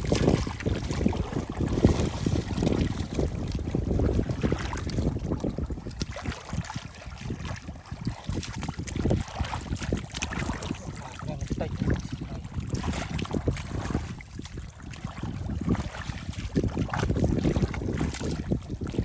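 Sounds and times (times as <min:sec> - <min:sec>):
splashing in shallow water: 0:00.0 - 0:19.0
wind buffeting microphone: 0:00.0 - 0:19.0.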